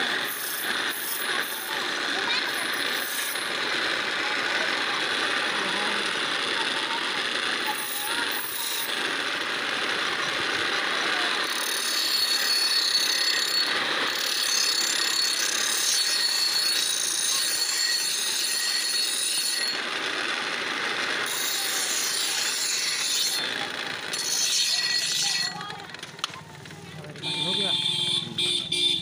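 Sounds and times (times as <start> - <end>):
blade scraping on grinding wheel: 0.0 - 29.0.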